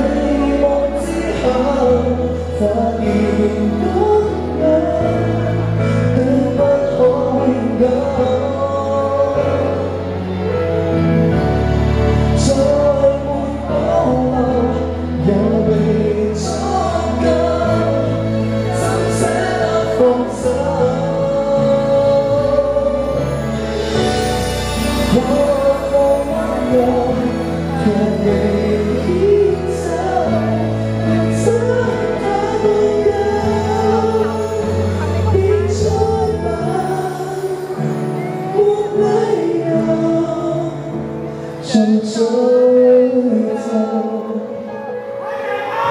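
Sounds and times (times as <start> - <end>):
man singing into microphone: 0.0 - 11.4, 12.0 - 45.9
pop song backing track: 0.0 - 45.9.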